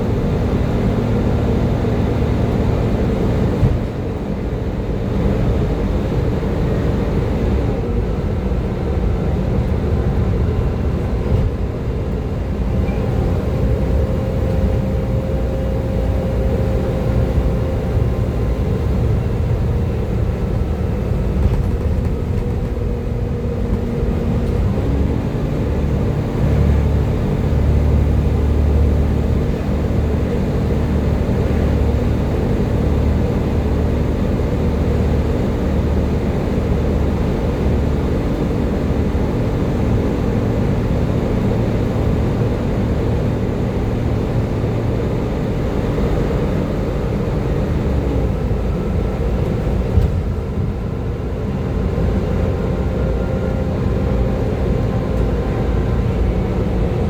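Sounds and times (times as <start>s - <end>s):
bus engine rumble: 0.0s - 57.0s
bus whine: 0.0s - 57.0s.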